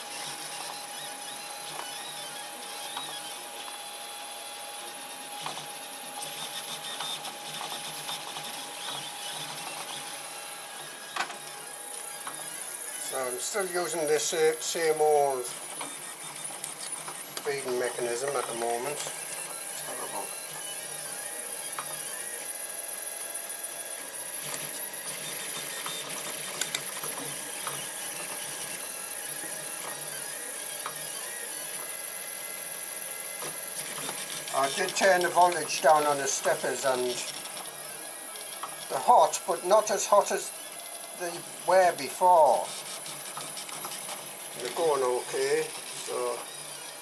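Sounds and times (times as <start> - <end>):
printer humming: 0.0 - 47.0
stepper motors whirring: 0.0 - 47.0.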